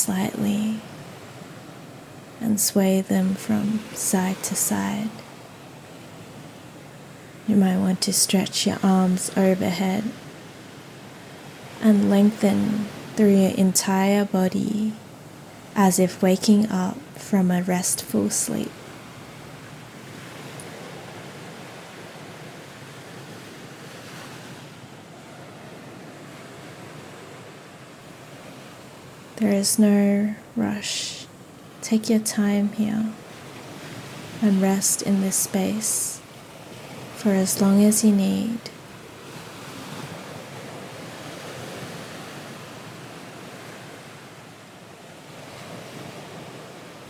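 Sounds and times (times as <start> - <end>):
ocean waves: 0.0 - 47.0.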